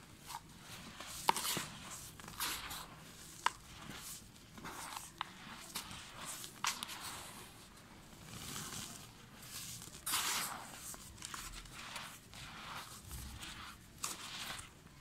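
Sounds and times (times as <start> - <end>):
fingers stirring dry dirt: 0.2 - 7.3, 9.5 - 14.8.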